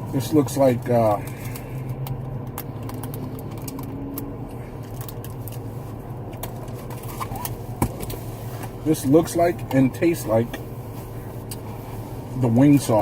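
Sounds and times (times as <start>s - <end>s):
parked car engine humming: 0.0s - 13.0s.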